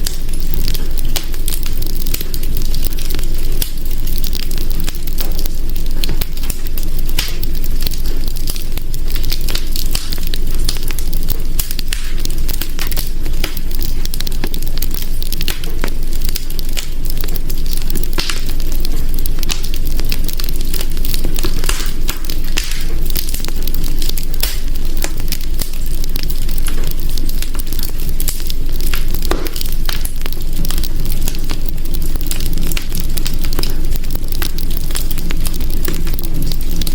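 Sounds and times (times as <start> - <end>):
low rumble of flames: 0.0 - 36.9
wood fire crackling and popping: 0.0 - 36.9.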